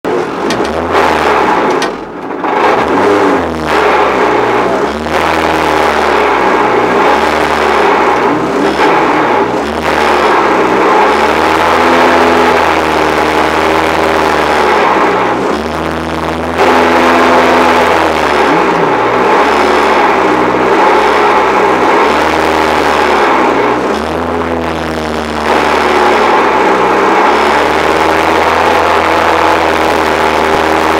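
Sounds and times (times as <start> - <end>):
rally car engine accelerating: 0.0 - 30.9.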